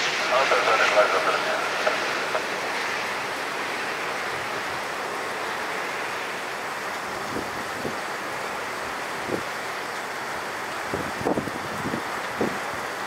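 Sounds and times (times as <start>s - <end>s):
distant jet engine rush: 0.0s - 13.0s.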